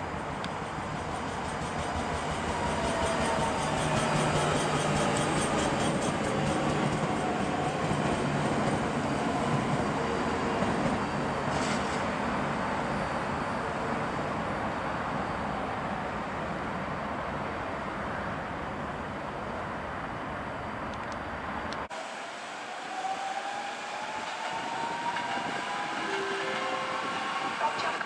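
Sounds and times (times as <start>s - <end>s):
electric train running past: 0.0s - 28.0s.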